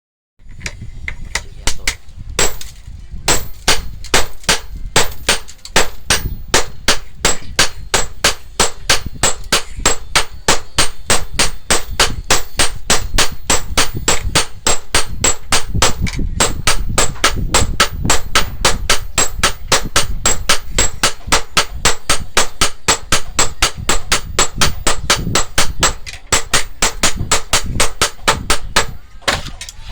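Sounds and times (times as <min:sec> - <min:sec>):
hammer striking metal: 0:01.6 - 0:29.7.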